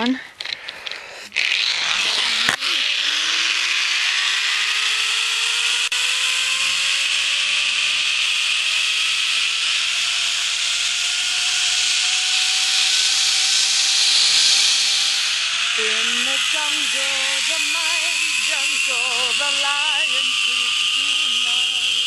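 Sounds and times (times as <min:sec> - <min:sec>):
zipline trolley hissing on cable: 0:00.0 - 0:22.0.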